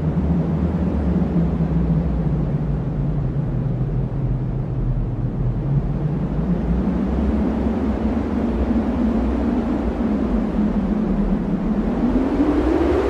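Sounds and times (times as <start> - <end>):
strong wind low rumble: 0.0 - 13.0.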